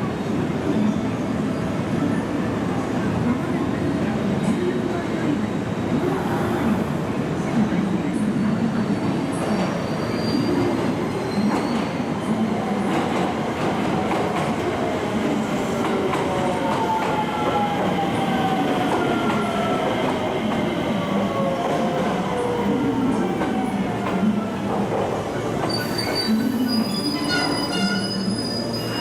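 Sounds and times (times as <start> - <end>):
falling multi-tone train whine: 1.3 - 29.0.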